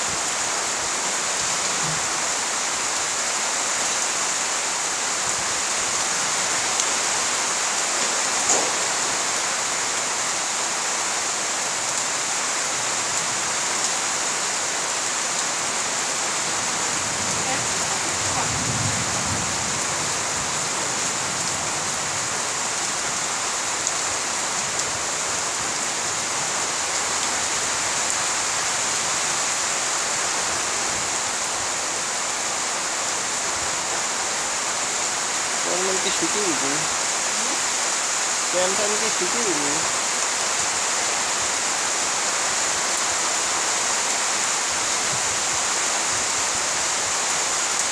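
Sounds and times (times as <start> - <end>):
steady rain on trees and ground: 0.0 - 47.9.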